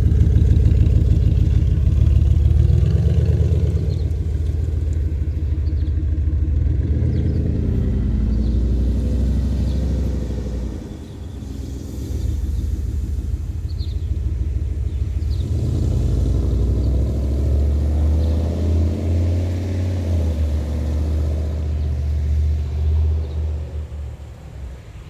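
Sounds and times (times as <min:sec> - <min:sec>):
car exhaust rumble: 0:00.0 - 0:25.0.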